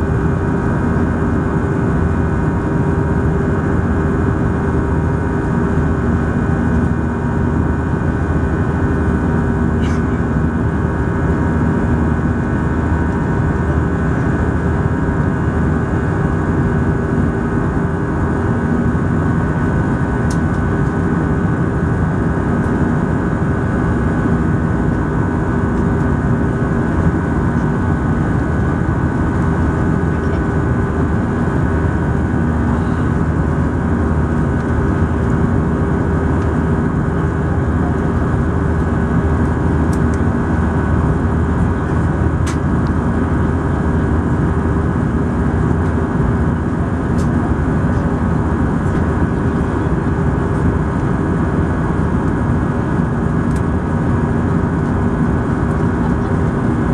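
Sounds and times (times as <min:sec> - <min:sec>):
jet engines humming: 0:00.0 - 0:56.9.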